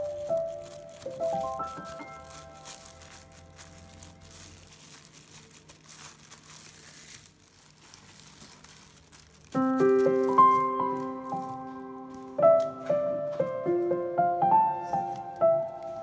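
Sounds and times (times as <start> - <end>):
gentle piano music: 0.0 - 16.0
plastic glove and foil crinkling: 0.0 - 16.0.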